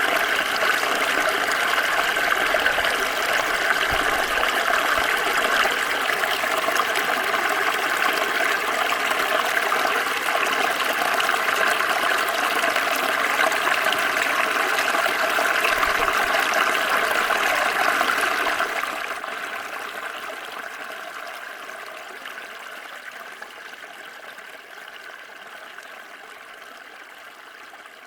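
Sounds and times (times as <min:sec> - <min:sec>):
small stream flowing: 0:00.0 - 0:28.0.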